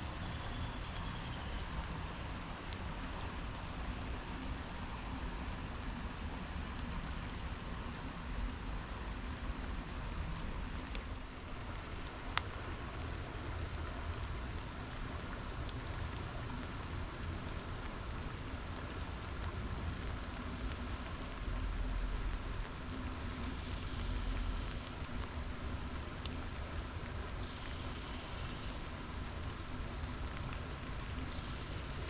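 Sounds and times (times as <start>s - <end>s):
light rain on water and leaves: 0.0s - 32.0s
river running: 0.0s - 32.0s.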